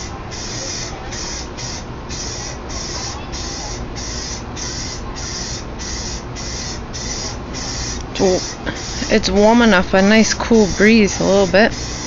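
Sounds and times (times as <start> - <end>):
paint sprayer hissing bursts: 0.0 - 12.0
steady low hum: 0.0 - 12.0.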